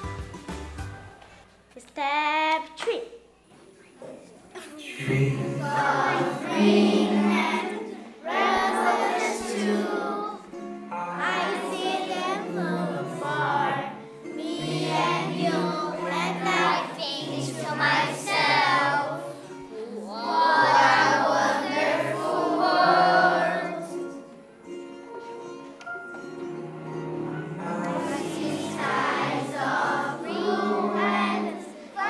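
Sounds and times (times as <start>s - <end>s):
children's choir singing: 4.6s - 32.0s.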